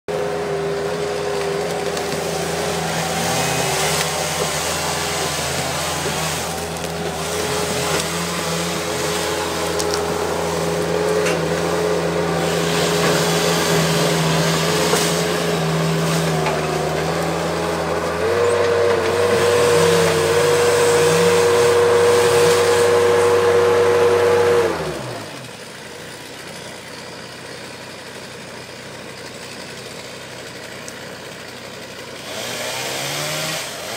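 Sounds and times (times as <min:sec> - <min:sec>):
skid steer running: 0:00.1 - 0:33.9.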